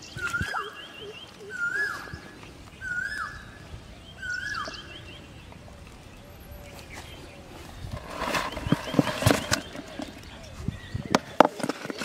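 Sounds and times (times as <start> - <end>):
bird twittering chirps: 0.0 - 12.0.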